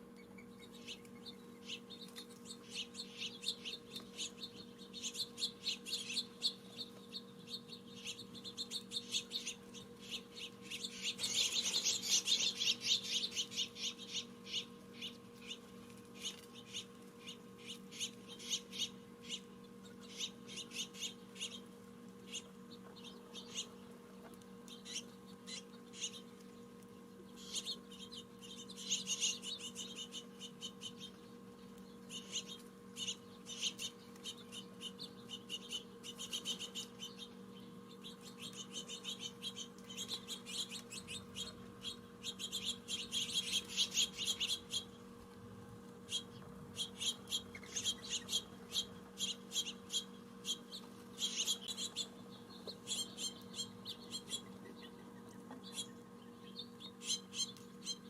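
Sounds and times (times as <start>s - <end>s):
faint steady hum: 0.0s - 58.0s
small songbirds chirping: 0.1s - 45.0s, 46.0s - 58.0s.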